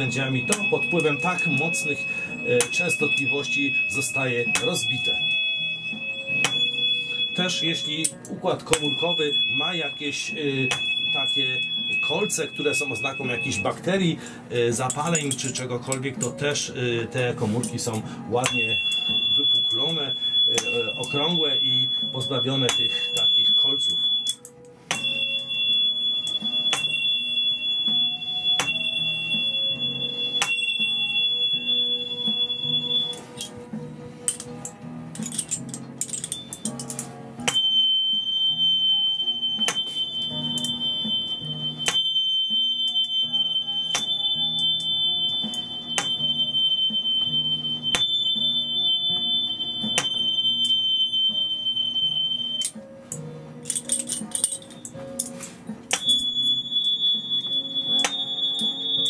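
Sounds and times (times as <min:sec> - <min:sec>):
tuning forks ringing: 0:00.0 - 0:59.0.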